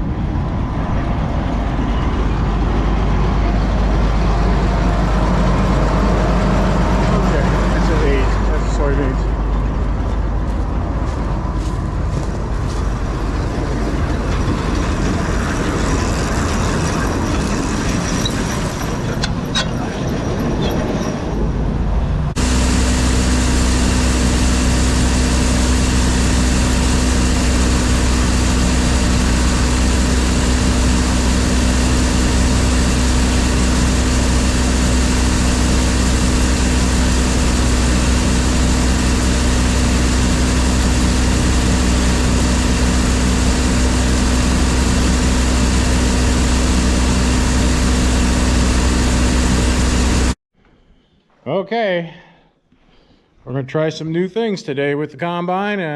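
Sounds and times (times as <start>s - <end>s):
engine idling with low hum: 0.0s - 50.4s
farm machinery engine running: 0.0s - 50.4s.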